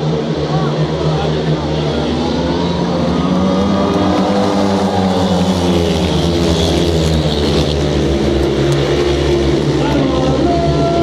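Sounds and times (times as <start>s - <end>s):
motorcycles racing: 0.0s - 11.0s.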